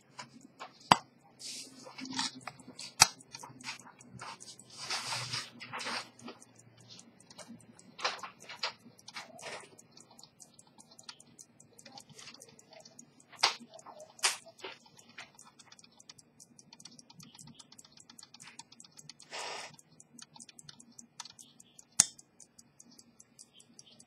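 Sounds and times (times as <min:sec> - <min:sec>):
pocket watch ticking: 0:00.0 - 0:24.0.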